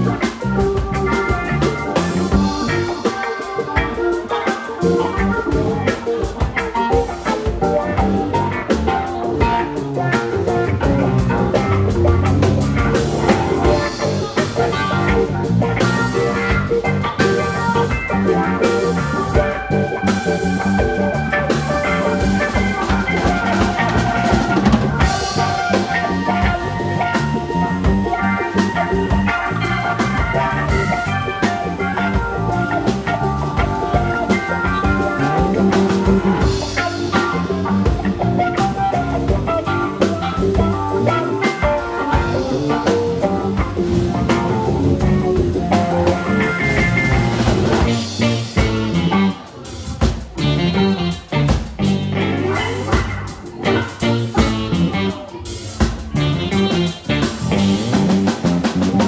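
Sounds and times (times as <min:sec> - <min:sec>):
drum kit groove: 0:00.0 - 0:59.0
instrumental funk band: 0:00.0 - 0:59.0.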